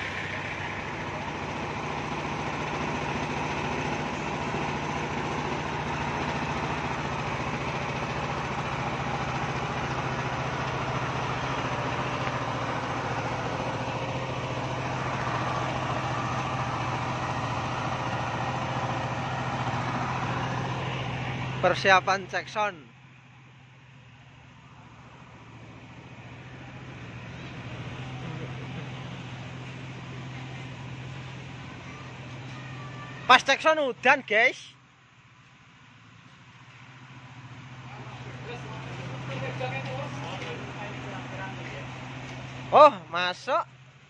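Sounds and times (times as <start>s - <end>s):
diesel generator humming: 0.0s - 44.0s.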